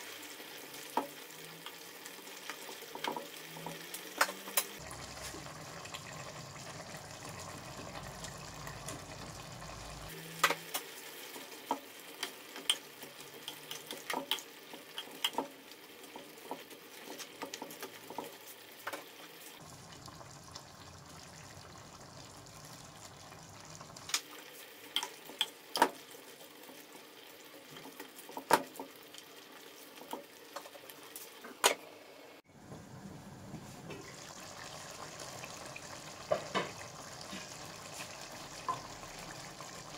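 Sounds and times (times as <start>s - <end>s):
food sizzling in a pan: 0.0s - 32.5s, 33.8s - 39.9s.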